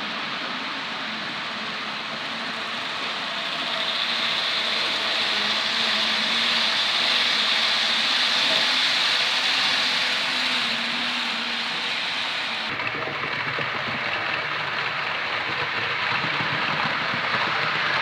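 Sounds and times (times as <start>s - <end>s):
faint motor hum: 0.0s - 18.0s
model train wheels rattling on rail: 0.0s - 18.0s.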